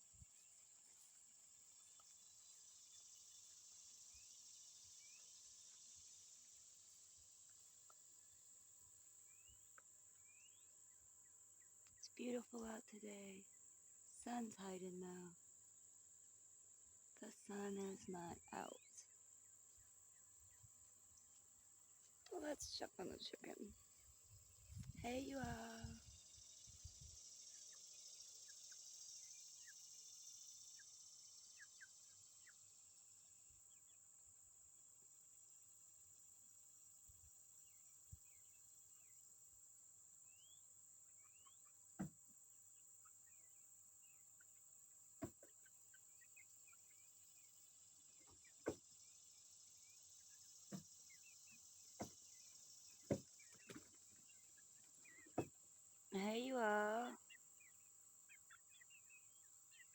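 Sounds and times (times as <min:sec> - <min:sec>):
high insect drone: 0:00.0 - 0:10.7, 0:11.6 - 0:41.4, 0:42.0 - 0:59.9.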